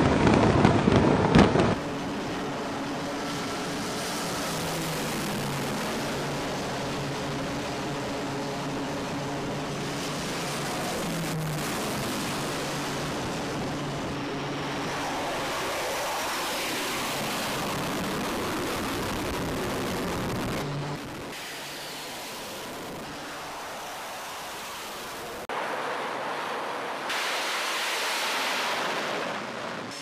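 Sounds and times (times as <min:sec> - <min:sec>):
turboprop engines droning: 0:00.0 - 0:30.0
wind rush: 0:00.0 - 0:30.0.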